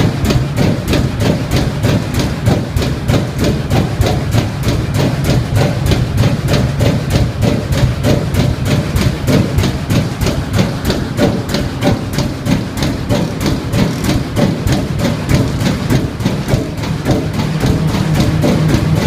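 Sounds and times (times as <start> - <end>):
marine engine knocking rhythmically: 0.0 - 19.0.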